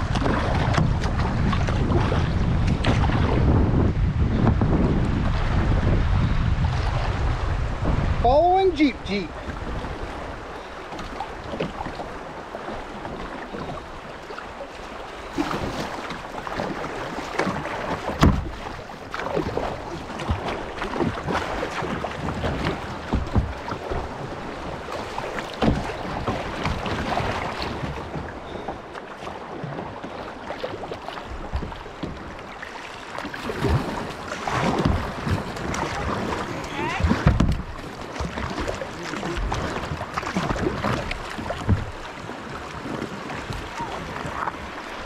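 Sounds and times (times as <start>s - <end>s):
paddle splashing in water: 0.0s - 45.0s.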